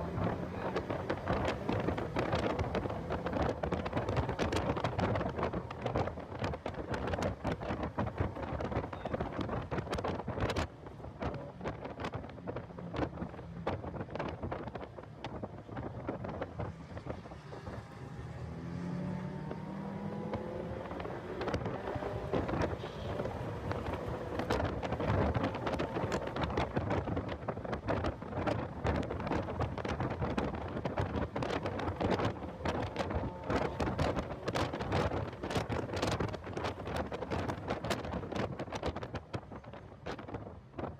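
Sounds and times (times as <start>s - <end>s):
car engine accelerating: 0.0s - 10.6s, 16.0s - 38.8s
wind buffeting microphone: 0.0s - 40.9s.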